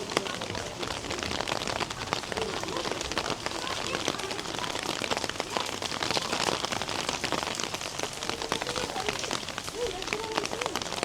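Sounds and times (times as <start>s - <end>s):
rain hissing: 0.0s - 11.0s
raindrops ticking close by: 0.0s - 11.0s.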